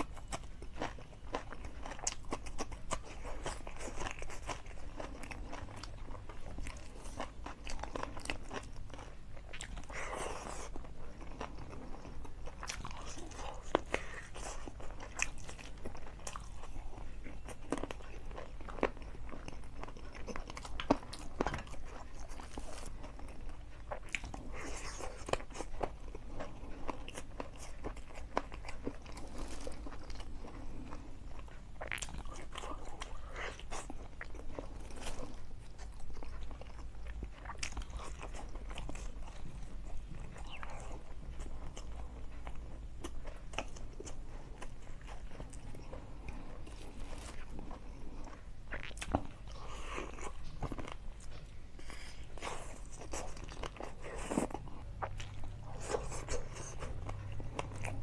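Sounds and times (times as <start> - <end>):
chewing and crunching: 0.0 - 58.0.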